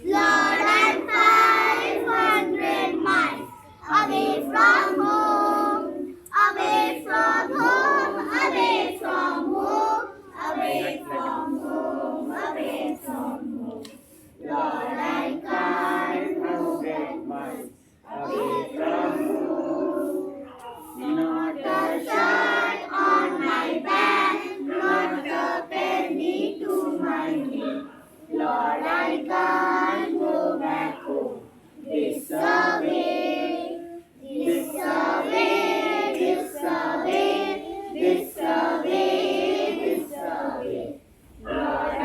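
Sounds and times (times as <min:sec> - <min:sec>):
children singing in unison: 0:00.0 - 0:42.0.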